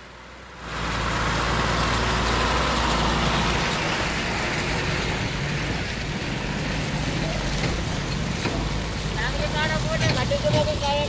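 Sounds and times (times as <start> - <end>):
truck engine rumble: 0.0 - 11.0
tyres on wet road: 0.0 - 11.0.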